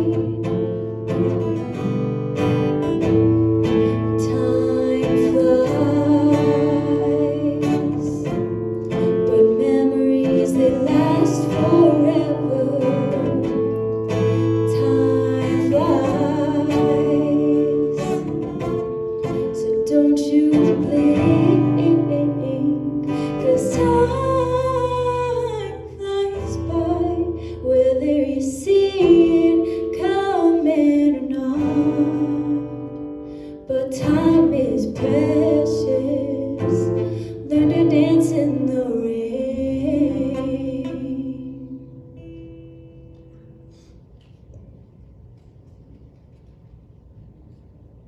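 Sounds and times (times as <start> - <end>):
woman singing into a microphone: 0.0 - 1.7, 3.8 - 8.4, 9.1 - 33.0, 33.6 - 42.0
strummed acoustic guitar: 0.0 - 44.0.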